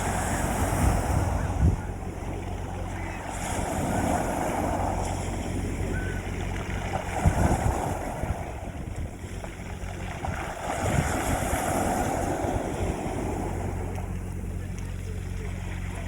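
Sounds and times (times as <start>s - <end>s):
sea waves washing on beach: 0.0s - 16.0s
wind buffeting microphone: 0.0s - 16.0s.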